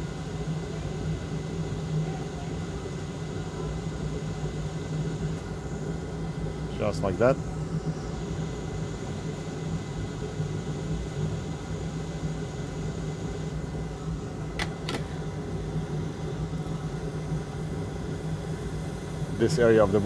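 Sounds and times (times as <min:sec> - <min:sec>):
hot air blower whirring: 0:00.0 - 0:20.0.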